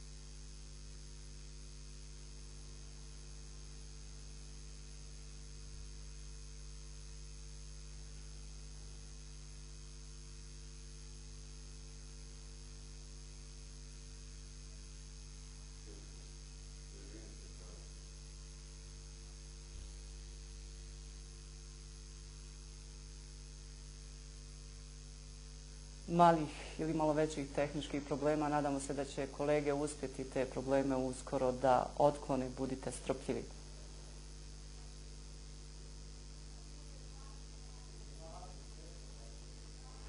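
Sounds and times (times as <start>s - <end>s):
mains hum: 0.0s - 40.0s.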